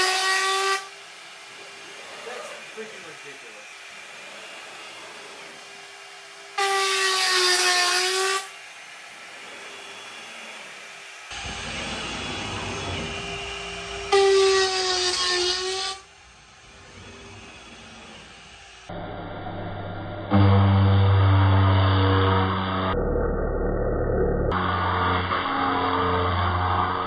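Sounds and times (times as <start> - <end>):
router bit cutting plywood: 0.0 - 19.4, 24.5 - 27.0
router spindle whining: 0.0 - 23.0.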